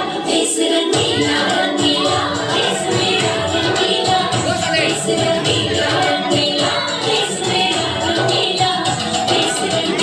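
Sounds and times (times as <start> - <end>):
music with singing: 0.0 - 10.0.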